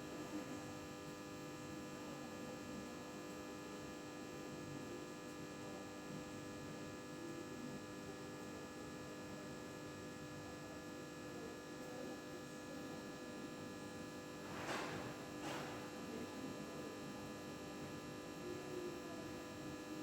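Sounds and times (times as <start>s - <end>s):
computer electrical hum: 0.0s - 20.0s.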